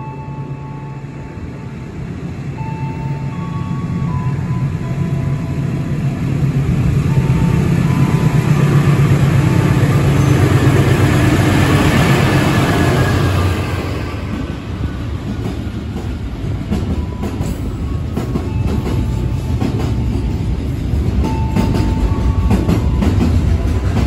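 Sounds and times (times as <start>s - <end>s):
diesel locomotive engine drone: 0.0s - 24.0s
train wheels rushing: 4.0s - 24.0s.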